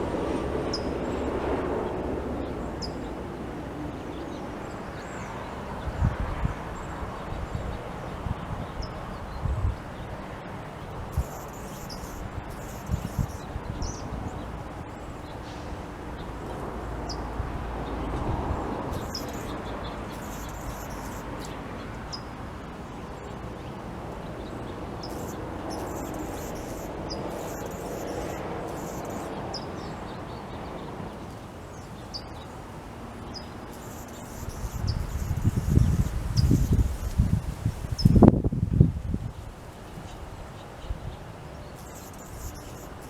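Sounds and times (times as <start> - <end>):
birds chirping: 0.0 - 6.1, 10.8 - 32.6, 33.2 - 38.2, 40.1 - 43.0
outdoor background hiss: 0.0 - 43.0.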